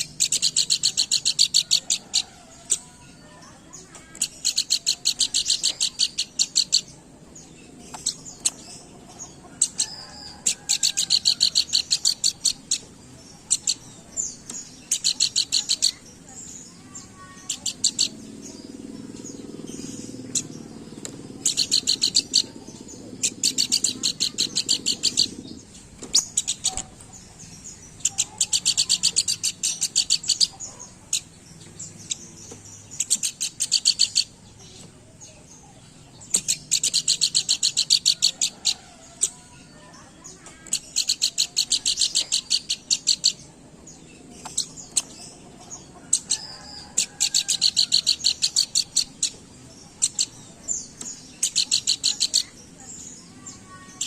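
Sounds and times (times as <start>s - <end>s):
bird trilling rapidly: 0.0s - 3.1s, 3.7s - 7.0s, 7.8s - 16.2s, 16.9s - 34.8s, 36.2s - 54.0s.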